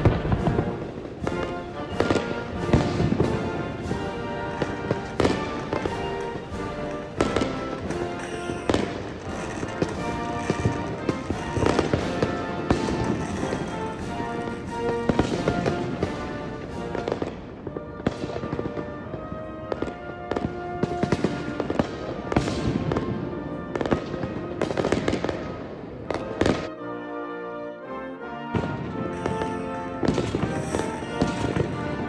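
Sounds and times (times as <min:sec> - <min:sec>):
fireworks bursting: 0:00.0 - 0:26.8, 0:28.5 - 0:32.0
music playing: 0:00.0 - 0:32.0.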